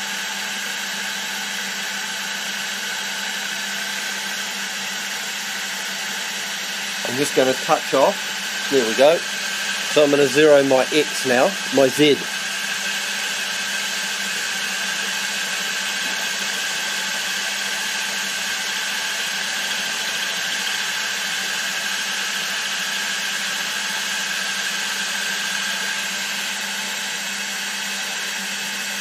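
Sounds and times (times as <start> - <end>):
milling machine spindle running: 0.0 - 29.0.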